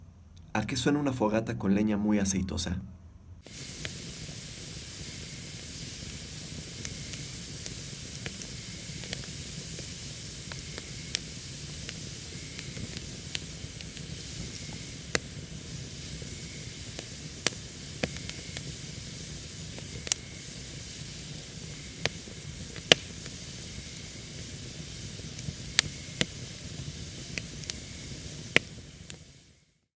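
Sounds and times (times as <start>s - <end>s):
fire popping and crackling: 3.4s - 29.6s
hiss of flame: 3.4s - 29.9s.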